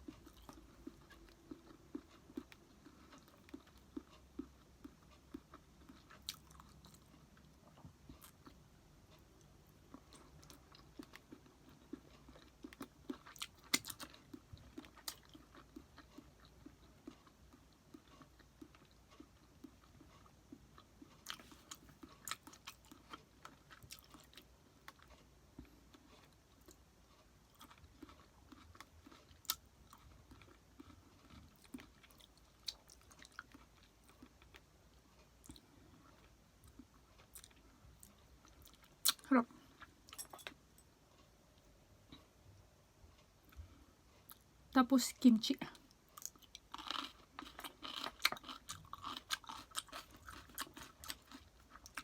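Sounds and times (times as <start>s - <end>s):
person chewing: 0.0s - 42.4s, 45.8s - 52.0s.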